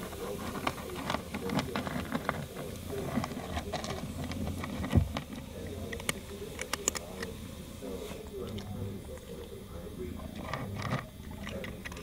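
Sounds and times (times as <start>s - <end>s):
cat crunching dry kibble: 0.0s - 7.4s, 8.2s - 12.0s.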